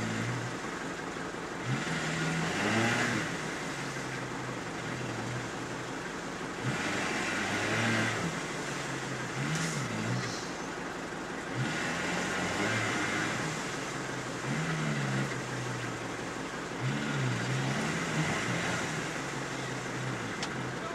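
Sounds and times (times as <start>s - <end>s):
off-road engine revving: 0.0s - 20.9s.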